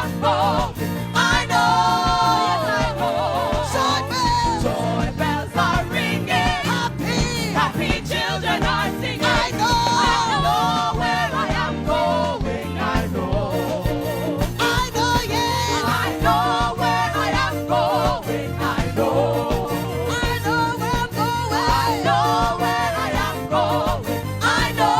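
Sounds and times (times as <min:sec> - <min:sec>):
gospel singing with vibrato: 0:00.0 - 0:24.9
instrumental backing with steady beat: 0:00.0 - 0:24.9.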